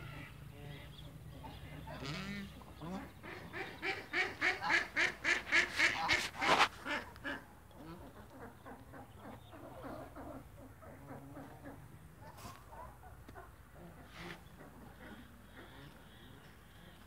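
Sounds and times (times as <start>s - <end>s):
ducks quacking: 0.0s - 17.0s.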